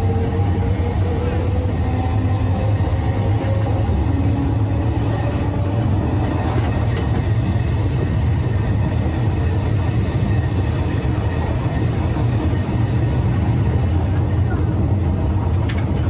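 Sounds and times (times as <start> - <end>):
tram rumbling along track: 0.0 - 16.0.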